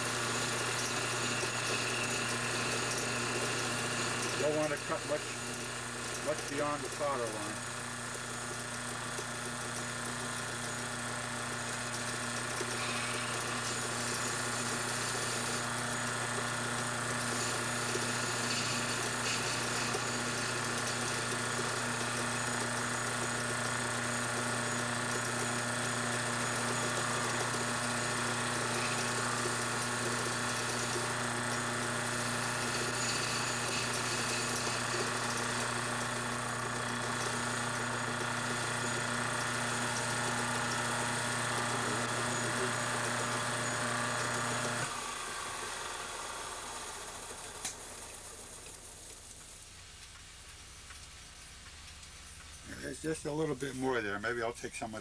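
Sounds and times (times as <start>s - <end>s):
cutting tool on spinning metal: 0.0s - 48.9s
lathe motor hum: 0.0s - 49.3s.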